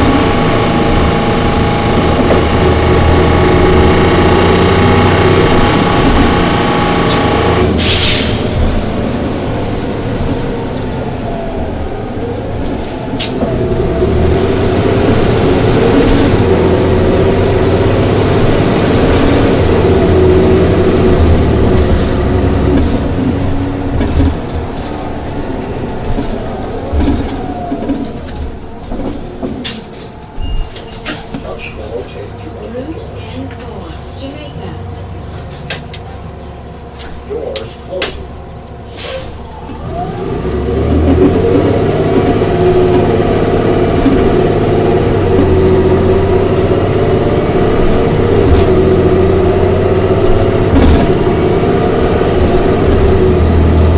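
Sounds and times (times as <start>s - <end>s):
bus engine running: 0.0s - 53.9s.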